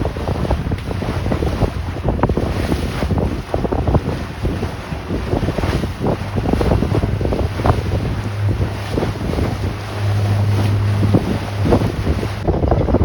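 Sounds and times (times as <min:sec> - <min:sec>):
boat motor humming: 0:00.0 - 0:13.0
water rushing past hull: 0:00.0 - 0:13.0
wind buffeting microphone: 0:00.0 - 0:13.0.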